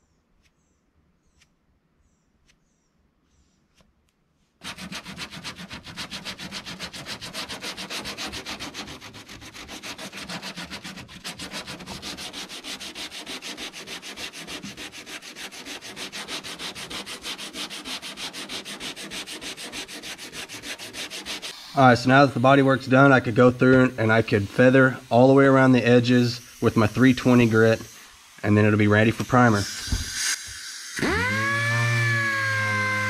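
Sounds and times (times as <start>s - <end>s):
hand sanding strokes: 3.2s - 33.0s.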